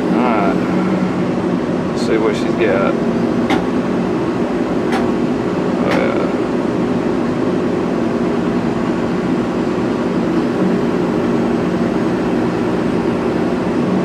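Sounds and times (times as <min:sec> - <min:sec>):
vehicle engine droning under load: 0:00.0 - 0:14.0.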